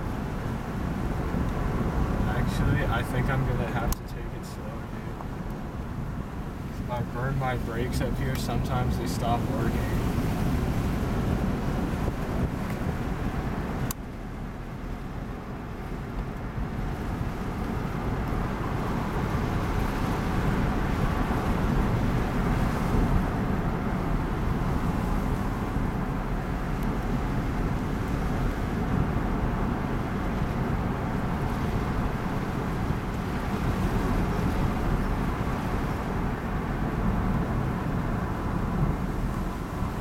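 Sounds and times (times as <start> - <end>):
road and wind noise in car: 0.0 - 40.0.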